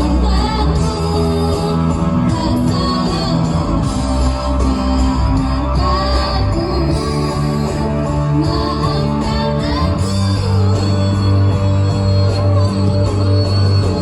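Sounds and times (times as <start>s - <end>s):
bass: 0.0s - 14.0s
guitar: 0.0s - 14.0s.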